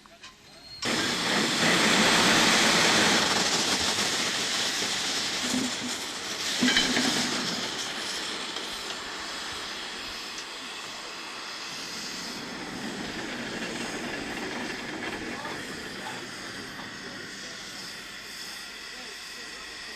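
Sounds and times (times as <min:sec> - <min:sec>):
steam hissing: 0:00.2 - 0:19.9.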